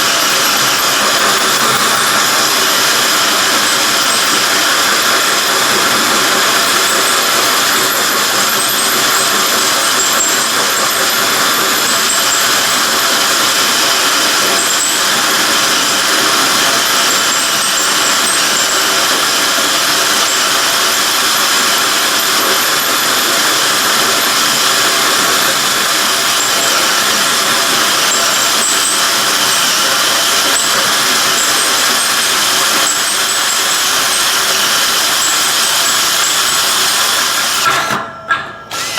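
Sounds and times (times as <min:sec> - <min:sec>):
electric drill cutting metal: 0:00.0 - 0:38.9.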